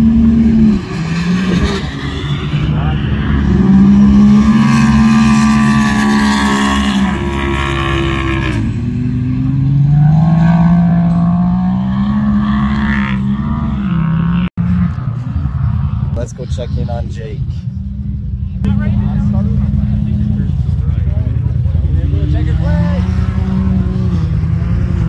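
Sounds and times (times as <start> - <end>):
racing engines revving: 0.0 - 25.0.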